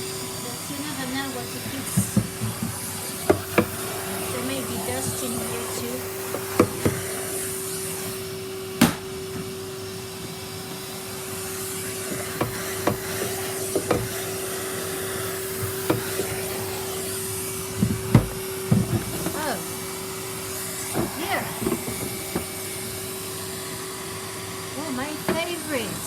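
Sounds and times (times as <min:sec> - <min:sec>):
vacuum cleaner humming: 0:00.0 - 0:26.0.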